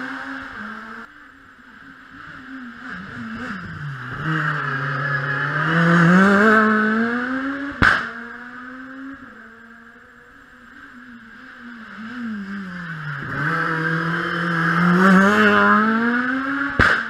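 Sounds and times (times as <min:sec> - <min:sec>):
rally car engine accelerating: 0:01.7 - 0:17.0.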